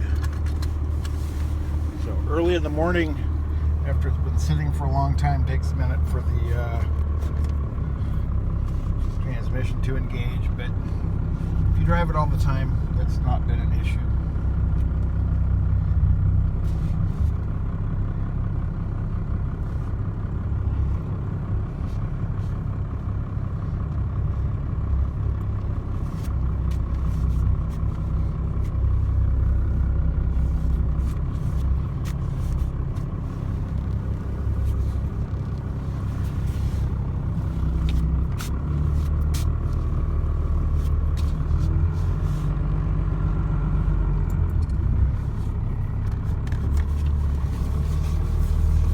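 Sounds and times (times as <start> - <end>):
pickup truck engine rumble: 0.0 - 48.9.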